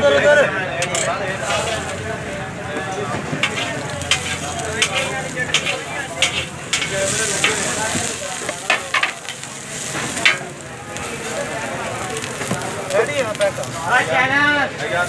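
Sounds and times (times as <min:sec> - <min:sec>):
burger sizzling on griddle: 0:00.7 - 0:15.0.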